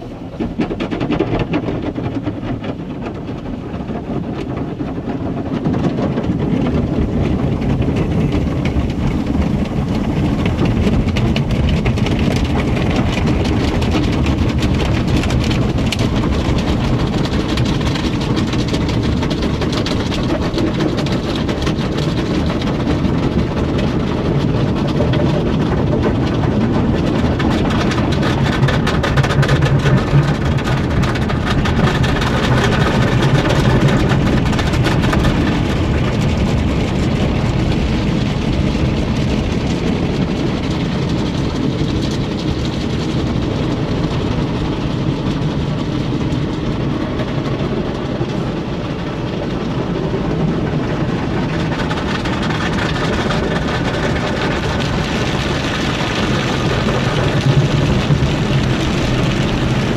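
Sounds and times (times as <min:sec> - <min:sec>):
car wash spraying water: 0:00.0 - 0:59.9
wash equipment working: 0:00.0 - 0:59.9.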